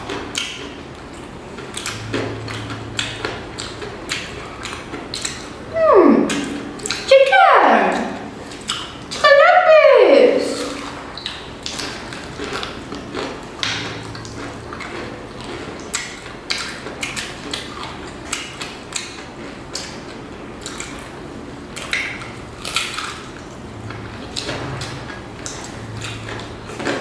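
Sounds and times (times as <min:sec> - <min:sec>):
chewing fried chicken: 0:00.0 - 0:07.1, 0:07.9 - 0:09.2, 0:10.4 - 0:27.0.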